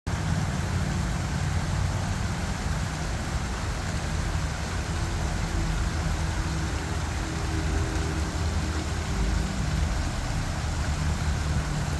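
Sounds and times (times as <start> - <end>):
small waterfall rushing: 0.1 - 11.9.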